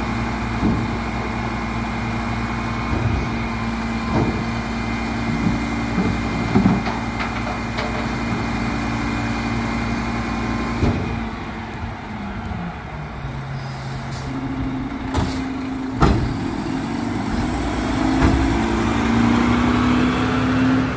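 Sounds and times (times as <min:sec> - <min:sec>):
truck diesel engine running: 0:00.0 - 0:20.9.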